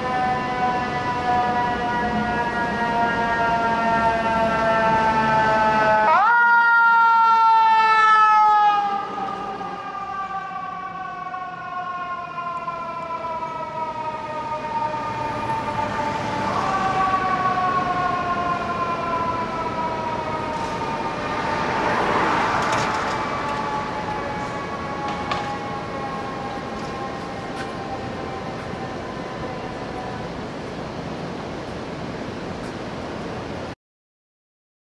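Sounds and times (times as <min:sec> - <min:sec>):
mechanical siren wailing: 0:00.0 - 0:30.7.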